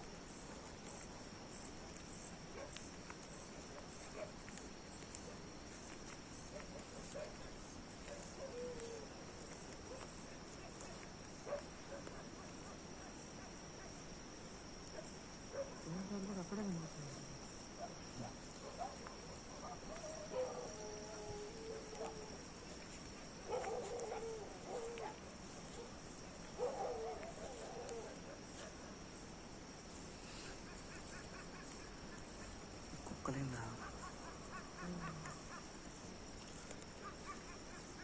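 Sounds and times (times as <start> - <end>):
crickets chirring: 0.0 - 38.0.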